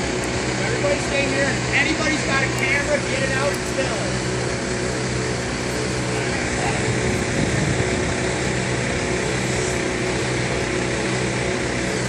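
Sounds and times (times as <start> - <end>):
street background noise: 0.0 - 12.0
vehicle engines idling: 0.0 - 12.0.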